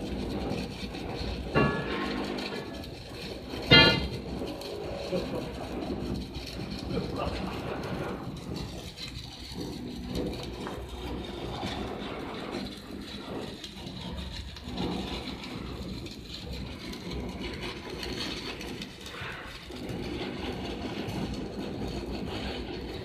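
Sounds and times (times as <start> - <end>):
welding arc crackling and hissing: 0.0 - 23.0.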